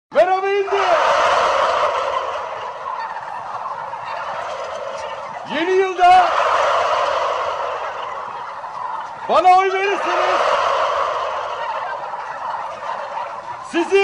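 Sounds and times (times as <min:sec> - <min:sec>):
turkeys gobbling: 0:00.2 - 0:14.0.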